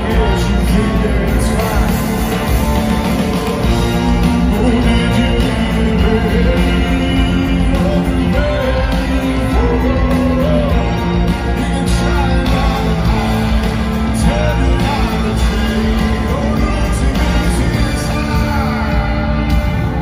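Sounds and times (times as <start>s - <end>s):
live rock band playing: 0.0s - 20.0s
person singing: 0.0s - 20.0s.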